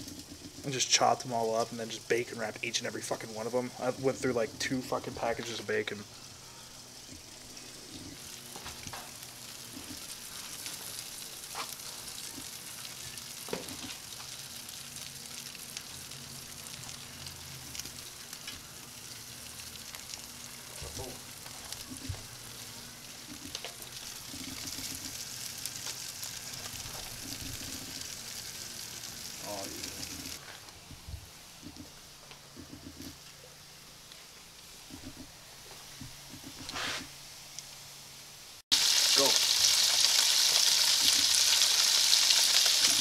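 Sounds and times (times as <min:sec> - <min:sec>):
meat sizzling on a grill: 0:00.0 - 0:30.7, 0:36.6 - 0:43.0.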